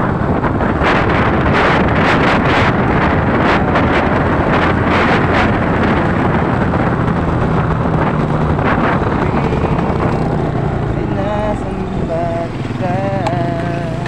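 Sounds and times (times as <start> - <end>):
motorcycle engine hum: 0.0 - 14.0
wind buffeting microphone: 0.0 - 14.0.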